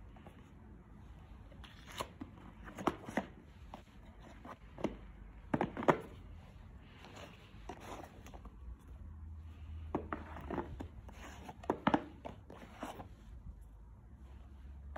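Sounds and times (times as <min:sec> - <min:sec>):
soft scraping rustle: 0:00.0 - 0:05.3, 0:06.1 - 0:14.9.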